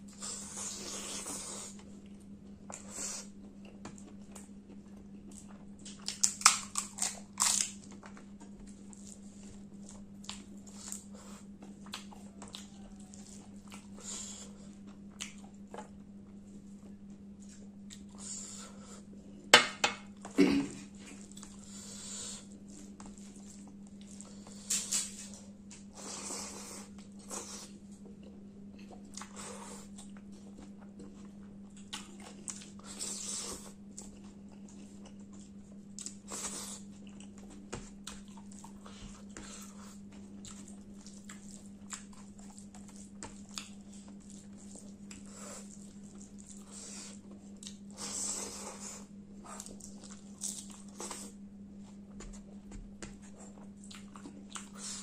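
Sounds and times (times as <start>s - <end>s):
steady low hum: 0.0s - 55.0s
wet chewing and smacks: 0.5s - 18.4s, 21.0s - 55.0s.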